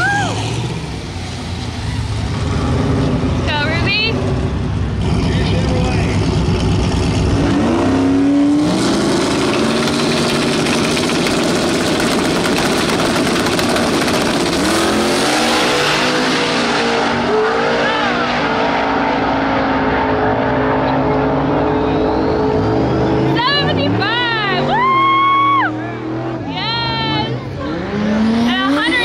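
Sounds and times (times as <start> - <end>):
racing car engines revving: 0.0 - 29.0.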